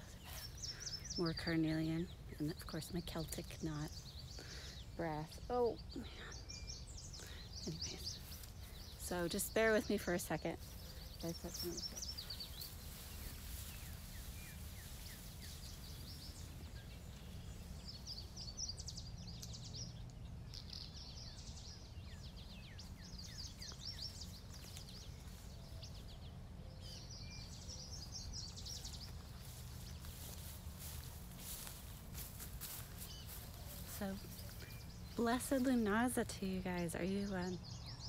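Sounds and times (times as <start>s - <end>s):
songbird trilling: 0.0s - 38.0s.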